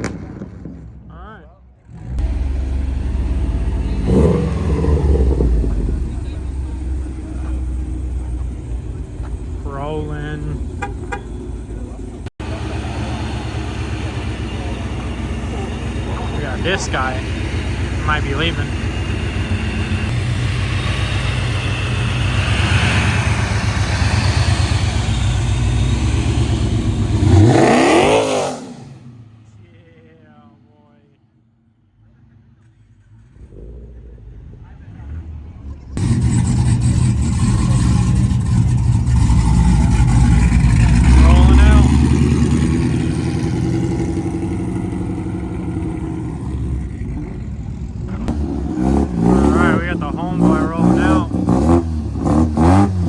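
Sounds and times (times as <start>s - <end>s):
car engine exhaust rumble: 1.8s - 28.1s, 32.0s - 53.0s.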